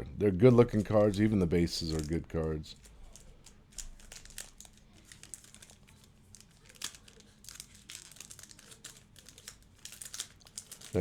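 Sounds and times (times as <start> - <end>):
plastic crinkling and rustling: 0.5 - 11.0.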